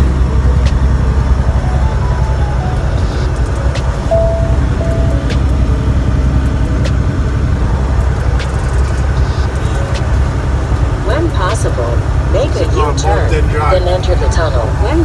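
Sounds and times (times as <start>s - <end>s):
truck engine and tyres rumbling: 0.0s - 15.0s.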